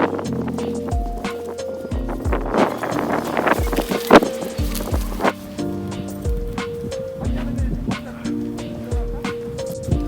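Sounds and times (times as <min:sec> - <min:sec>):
background music with bass drum: 0:00.0 - 0:10.0.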